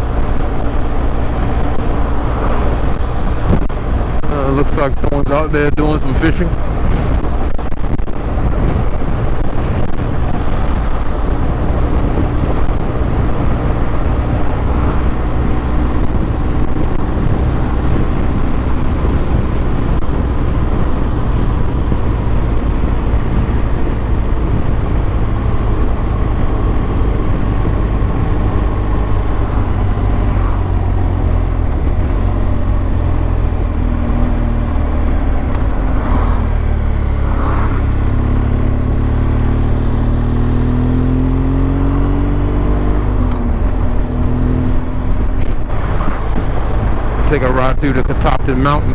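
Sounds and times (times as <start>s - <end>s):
motorcycle engine rumble: 0.0s - 48.9s.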